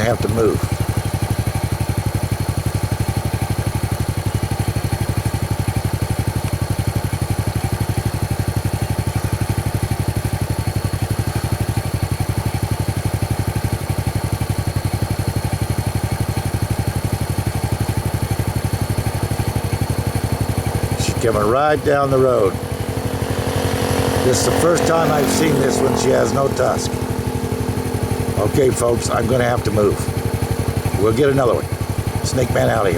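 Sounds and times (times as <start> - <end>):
vehicle engine idling: 0.0 - 32.9.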